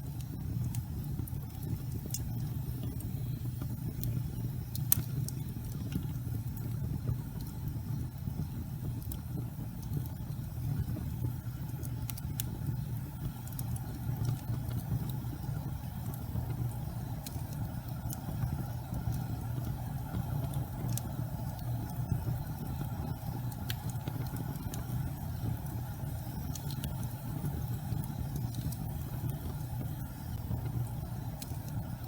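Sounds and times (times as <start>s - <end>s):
faint crackles and ticks: 0.0s - 32.0s
gas flames rumbling: 0.0s - 32.0s.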